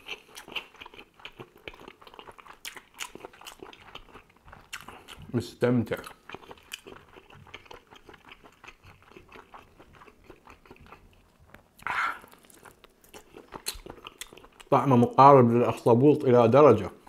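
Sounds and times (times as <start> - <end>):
wet chewing sounds: 0.0 - 14.9.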